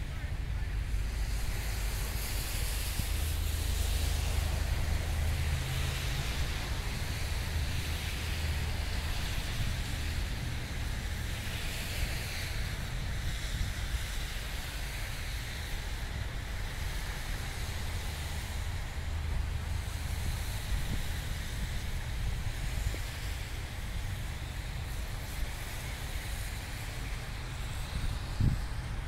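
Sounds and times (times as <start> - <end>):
car engine and road rumble: 0.0 - 29.0
tyre hiss: 0.0 - 29.0.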